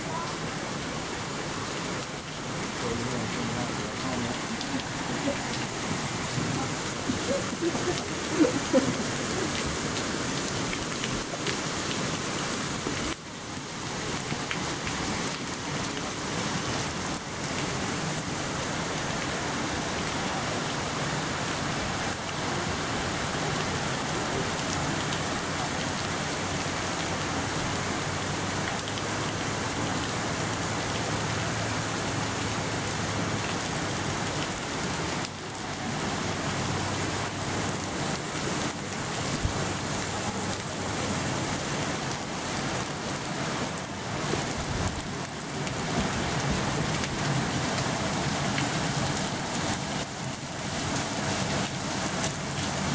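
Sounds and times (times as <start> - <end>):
water splashing at waterwheel: 0.0 - 52.9.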